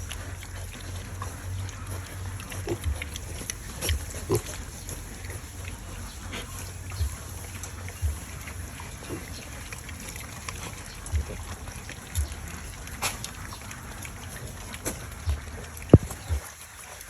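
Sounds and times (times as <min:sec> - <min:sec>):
pig sounds: 0:00.0 - 0:17.0
pigs smacking while eating: 0:00.0 - 0:17.0.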